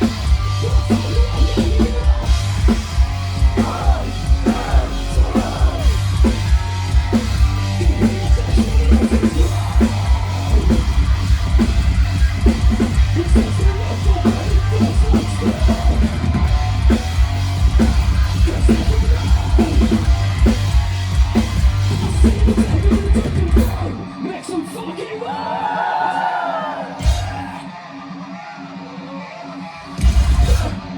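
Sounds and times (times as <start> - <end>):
distorted guitars and bass: 0.0 - 24.8, 26.9 - 30.9.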